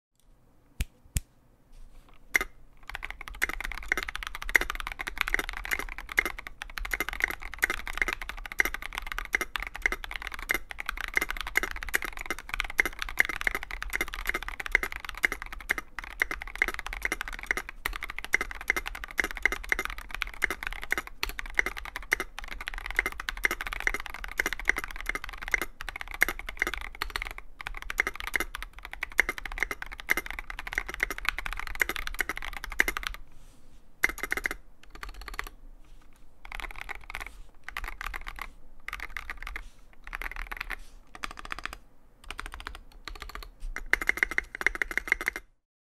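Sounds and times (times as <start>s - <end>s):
mechanical keyboard typing: 2.1s - 33.2s, 34.0s - 35.6s, 36.4s - 45.6s.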